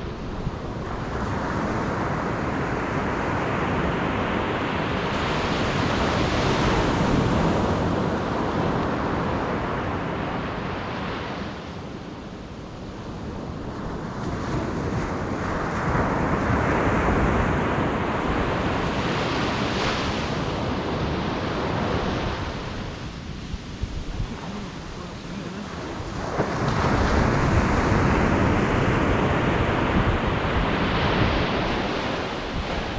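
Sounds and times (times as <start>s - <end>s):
ocean surf breaking: 0.0s - 11.6s, 13.5s - 32.9s
wind on microphone: 0.0s - 32.9s.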